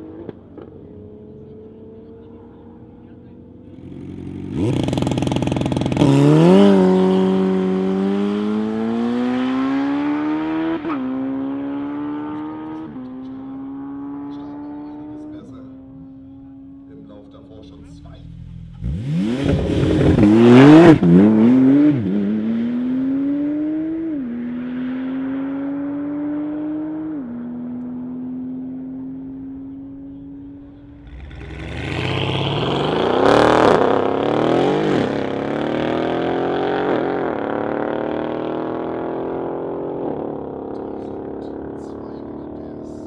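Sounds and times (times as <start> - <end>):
car accelerating with upshifts: 0.0 - 43.0
second car accelerating: 0.0 - 43.0.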